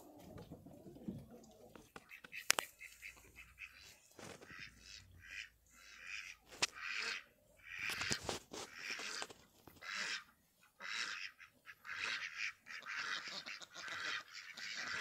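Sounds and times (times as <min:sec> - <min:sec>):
ducks quacking: 0:01.0 - 0:15.0.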